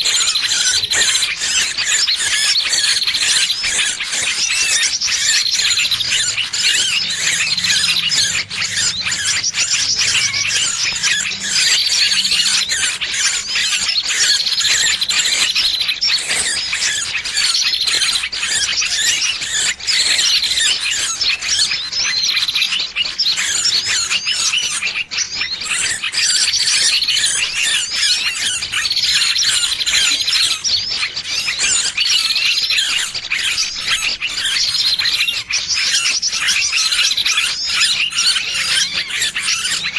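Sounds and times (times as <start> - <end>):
small bird distress squealing: 0.0 - 39.9.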